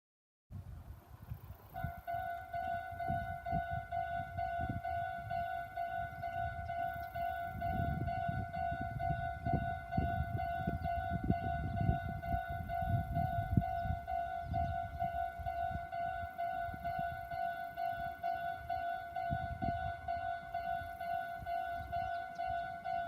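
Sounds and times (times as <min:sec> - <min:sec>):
level crossing warning bell: 0:01.8 - 0:23.0.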